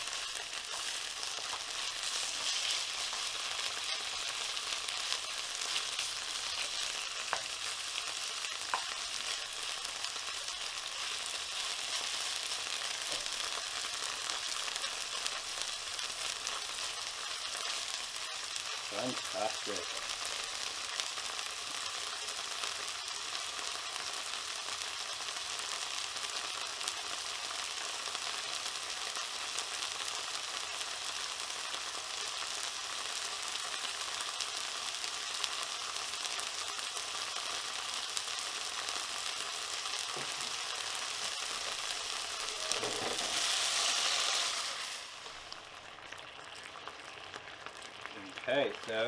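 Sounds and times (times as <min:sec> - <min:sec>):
meat sizzling in oil: 0:00.0 - 0:49.0.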